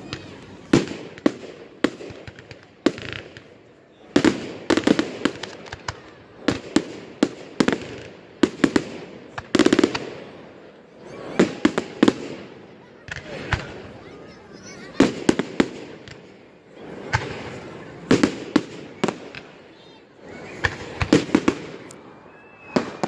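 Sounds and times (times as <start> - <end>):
fireworks banging and crackling: 0.0 - 23.0.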